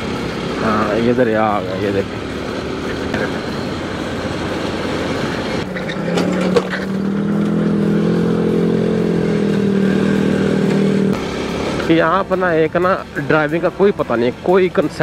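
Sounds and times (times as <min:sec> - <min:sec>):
motorcycle riding: 0:00.0 - 0:15.0
truck engine drone: 0:00.0 - 0:15.0
wind and road rush: 0:00.0 - 0:15.0.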